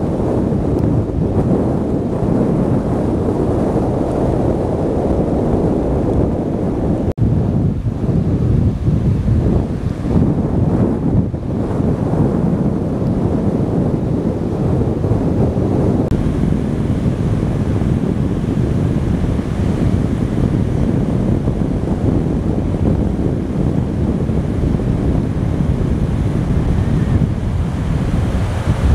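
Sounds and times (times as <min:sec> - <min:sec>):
surf breaking on beach: 0:00.0 - 0:28.9
wind buffeting microphone: 0:00.0 - 0:28.9.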